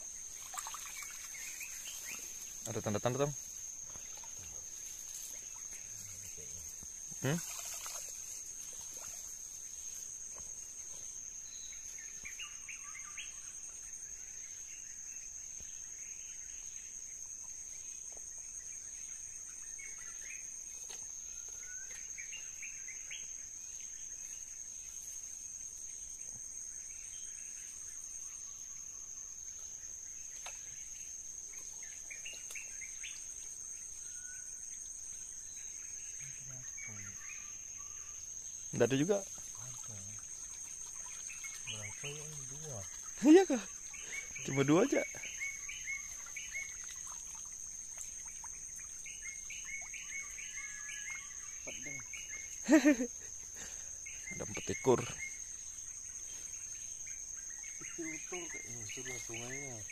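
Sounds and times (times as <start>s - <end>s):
insect chirps: 0.0s - 59.9s
insect high-pitched whine: 0.0s - 59.9s.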